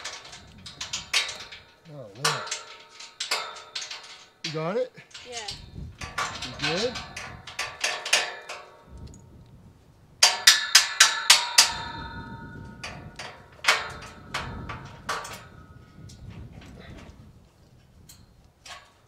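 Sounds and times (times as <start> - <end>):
metal gate clanking: 0.0 - 9.2, 10.2 - 17.1, 18.1 - 19.0.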